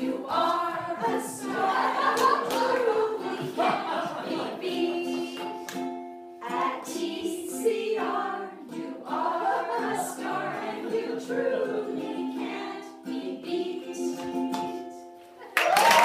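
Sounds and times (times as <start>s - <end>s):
women's chorus singing: 0.0s - 5.7s, 6.4s - 15.0s
strummed ukulele: 0.0s - 15.4s.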